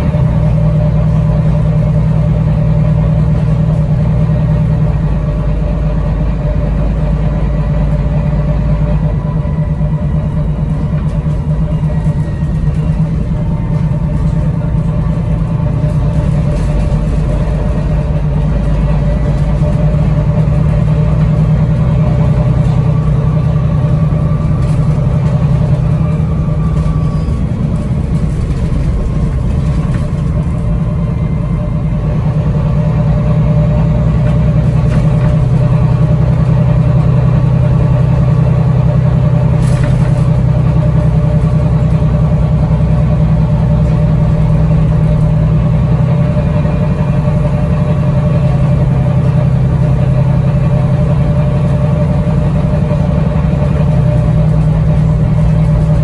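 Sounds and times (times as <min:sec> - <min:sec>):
bus engine low drone: 0:00.0 - 0:56.0.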